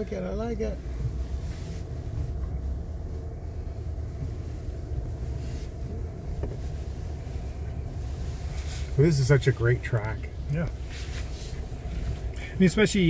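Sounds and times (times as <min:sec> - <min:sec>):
pickup truck driving rumble: 0:00.0 - 0:13.0.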